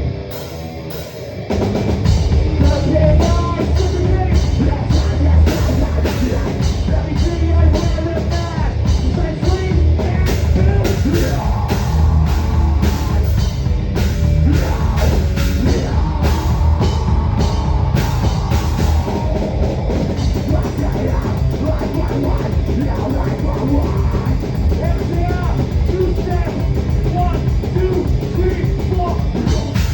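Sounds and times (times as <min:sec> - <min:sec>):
loud close drums: 0:00.0 - 0:29.9
rock band playing: 0:00.0 - 0:29.9.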